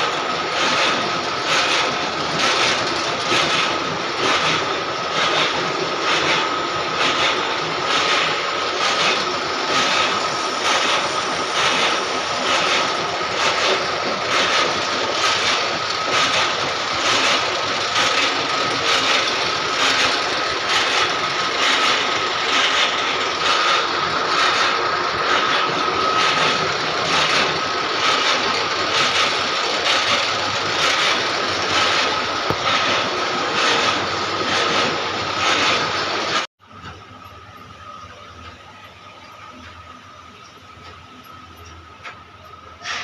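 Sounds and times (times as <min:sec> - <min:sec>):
machine whine with regular pulse: 0:00.0 - 0:43.0.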